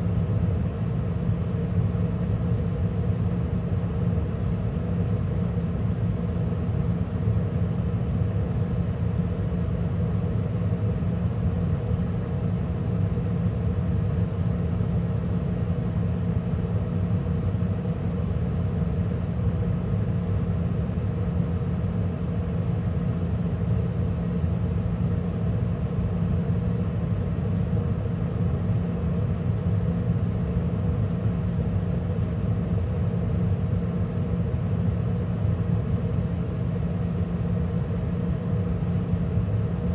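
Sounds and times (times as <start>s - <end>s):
gas furnace humming: 0.0s - 39.9s.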